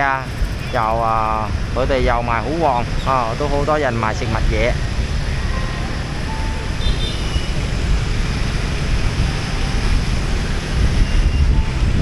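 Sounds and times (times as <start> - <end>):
motorbike and car traffic: 0.0 - 12.0
wind rush on microphone: 0.0 - 12.0.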